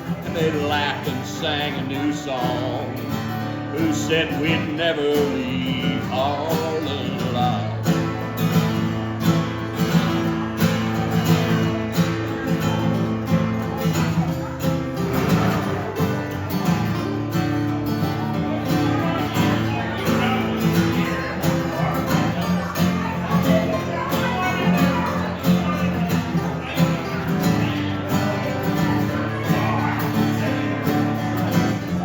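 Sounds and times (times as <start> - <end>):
guitar strummed: 0.0 - 32.0.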